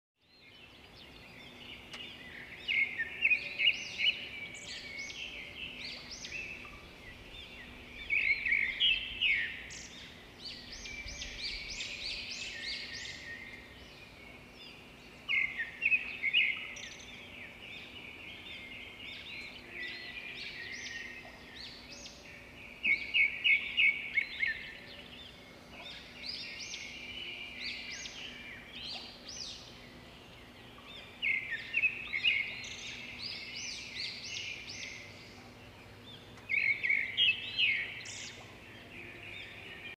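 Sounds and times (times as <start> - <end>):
birds chirping: 0.2 - 39.9
faint steady hum: 0.4 - 39.9.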